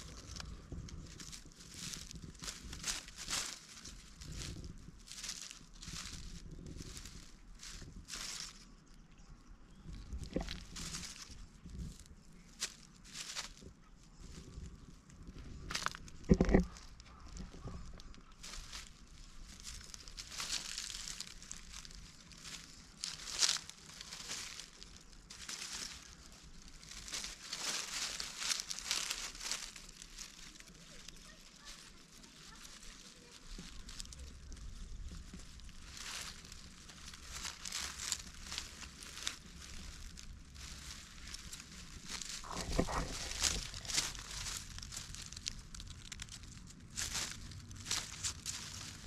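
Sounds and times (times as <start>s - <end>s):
rustling and crinkling: 0.0s - 49.0s.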